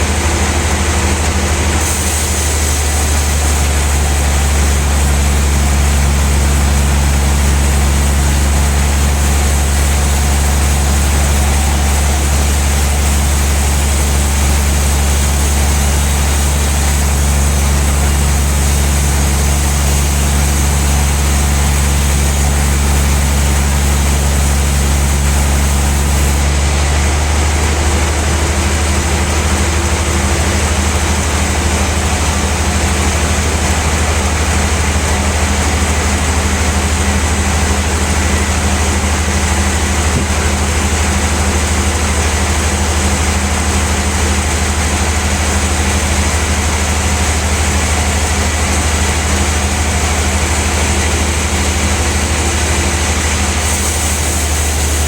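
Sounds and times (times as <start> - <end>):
band saw humming and hissing: 0.0 - 55.0.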